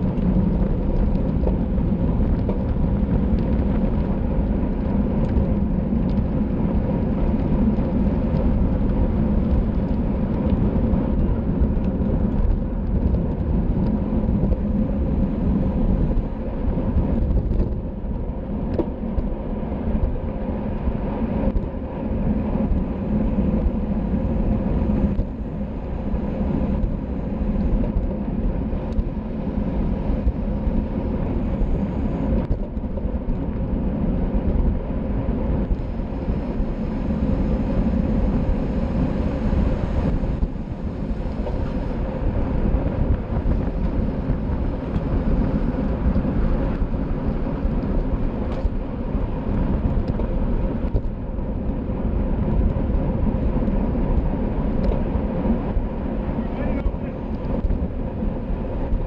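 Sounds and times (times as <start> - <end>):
rolling road noise: 0.0 - 59.0
wind rush: 0.0 - 59.0.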